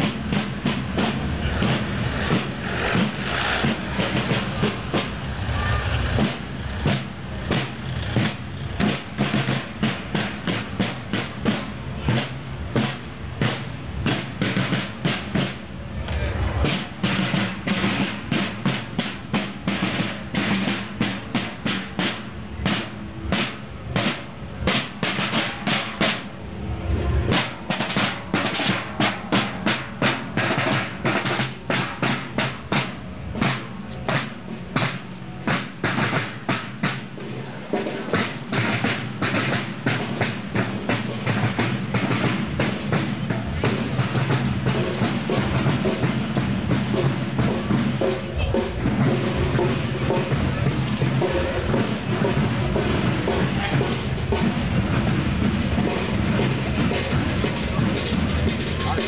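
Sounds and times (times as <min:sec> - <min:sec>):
marching snare drums with rolls: 0:00.0 - 0:59.0.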